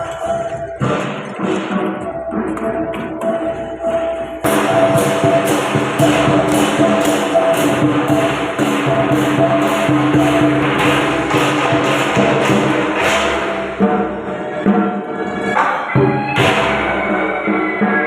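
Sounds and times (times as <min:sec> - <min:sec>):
metallic percussion strokes: 0:00.0 - 0:18.0.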